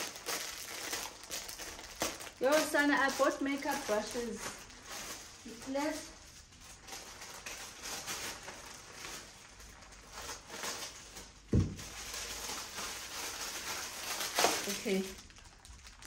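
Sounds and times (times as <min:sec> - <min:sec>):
packaging rustling: 0:00.0 - 0:16.0.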